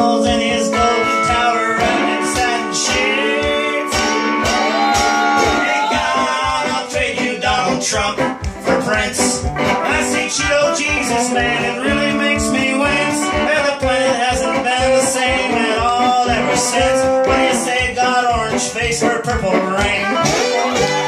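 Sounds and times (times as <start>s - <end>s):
two acoustic guitars picked: 0.0s - 21.0s.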